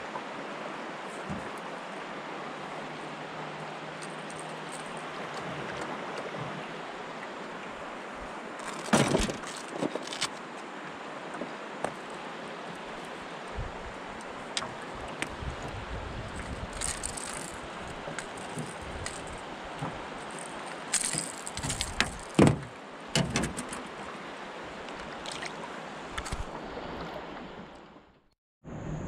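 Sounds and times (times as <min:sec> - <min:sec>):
river water rushing: 0:00.0 - 0:28.0
wind: 0:00.0 - 0:29.0.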